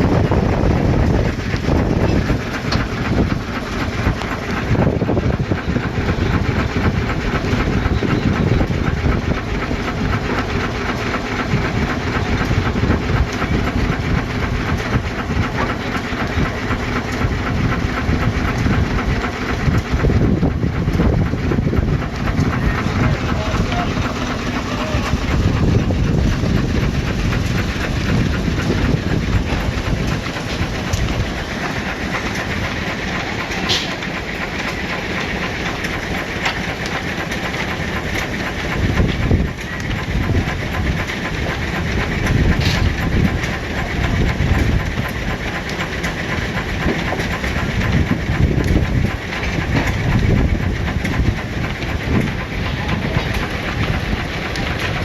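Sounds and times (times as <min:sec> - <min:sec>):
steam traction engine working: 0:00.0 - 0:55.0.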